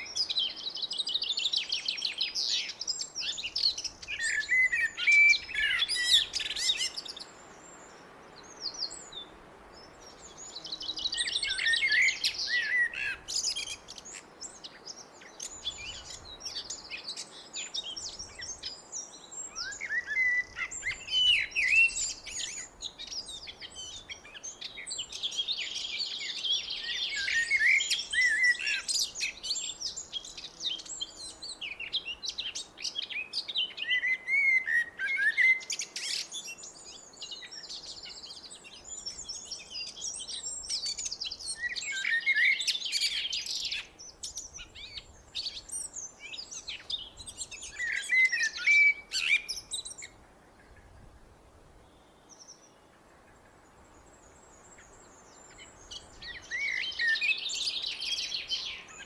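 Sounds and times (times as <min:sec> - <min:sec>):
blackbird singing: 0:00.0 - 0:50.2, 0:54.4 - 0:59.0.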